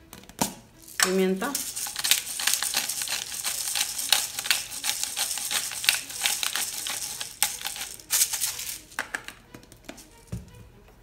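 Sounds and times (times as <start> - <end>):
pepper mill cracking peppercorns: 0.1 - 10.1.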